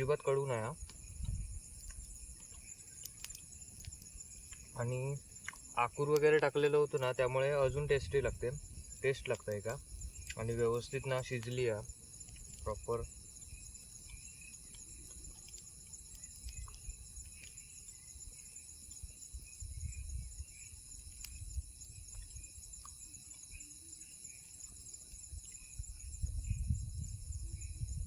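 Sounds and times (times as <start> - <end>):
insect chorus trilling: 0.0 - 28.0.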